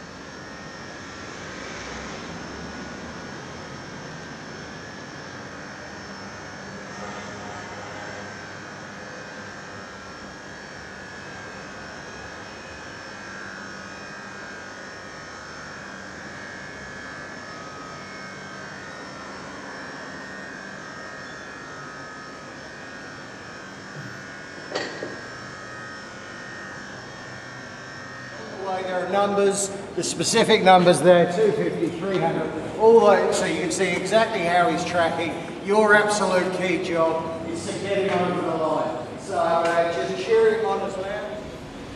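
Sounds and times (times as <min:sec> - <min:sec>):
mechanical humming drone: 0:00.0 - 0:41.9.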